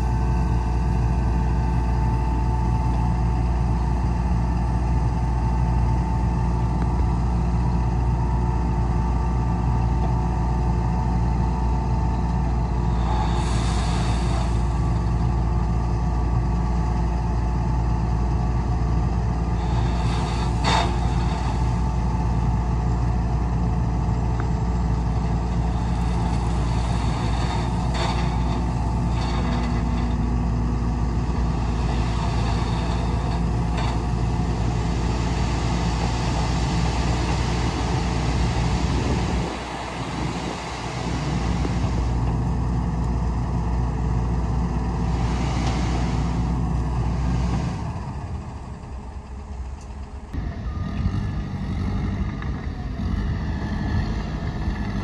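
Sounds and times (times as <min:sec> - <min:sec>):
diesel machinery running: 0:00.0 - 0:55.0.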